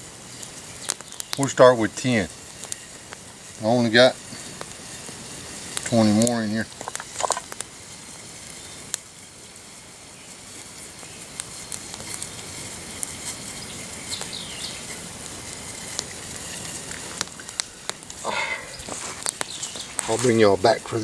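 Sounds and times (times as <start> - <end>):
campfire crackling and popping: 0.0 - 21.0
fire hissing: 0.0 - 21.0.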